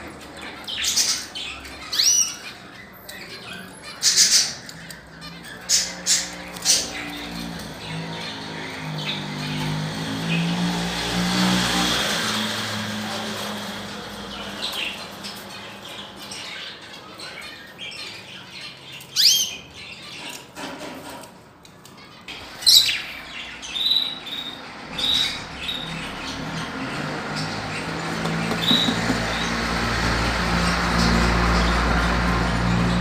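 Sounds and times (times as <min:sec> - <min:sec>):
canaries chirping: 0:00.0 - 0:33.0.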